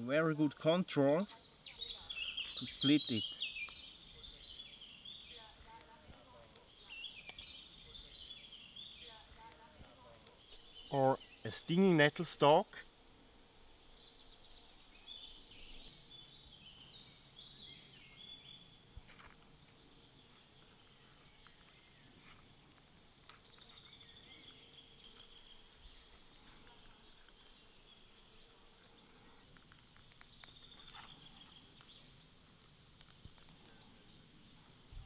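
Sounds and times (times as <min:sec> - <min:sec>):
distant bird chirps: 0:00.0 - 0:35.0.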